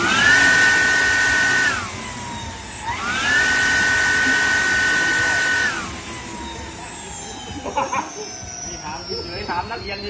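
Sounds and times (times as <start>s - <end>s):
electric motorcycle motor whining: 0.0s - 10.0s.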